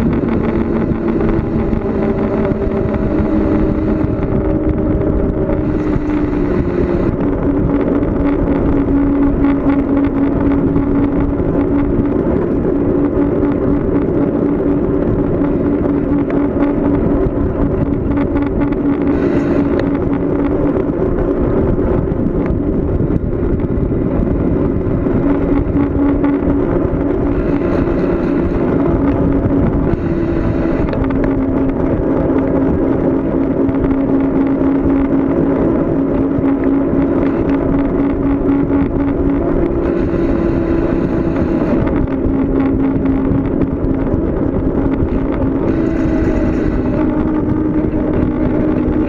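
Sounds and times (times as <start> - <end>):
bicycle road noise: 0.0 - 49.0
steady hum: 0.0 - 49.0
wind on microphone: 0.0 - 49.0.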